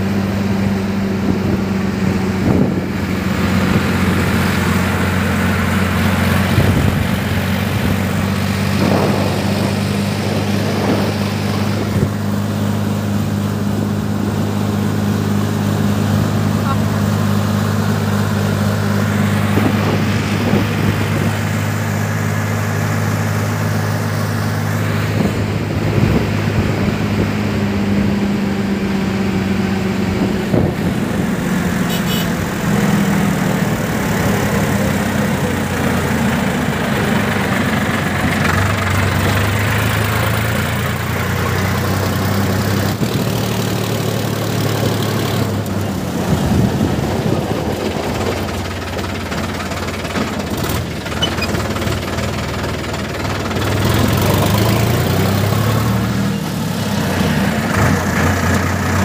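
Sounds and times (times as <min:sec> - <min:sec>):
tractor diesel engine droning: 0:00.0 - 0:59.0.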